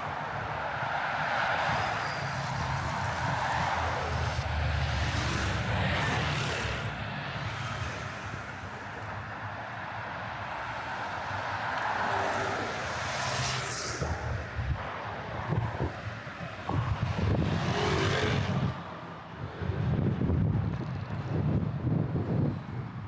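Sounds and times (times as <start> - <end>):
vehicles passing: 0.0 - 23.0.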